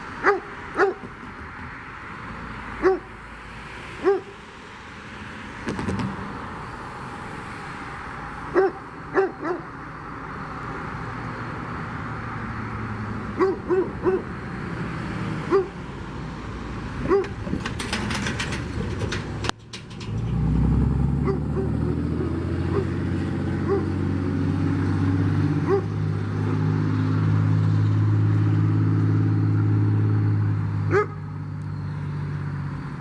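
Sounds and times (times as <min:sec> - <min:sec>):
loud vehicle engine: 0:00.0 - 0:33.0.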